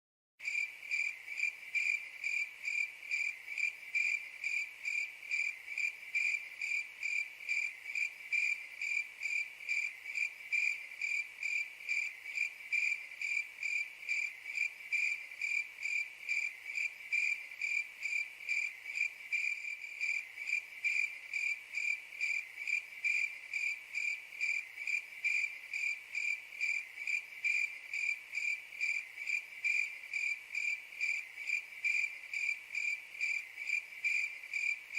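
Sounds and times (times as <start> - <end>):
cricket chirping: 0.4 - 34.9.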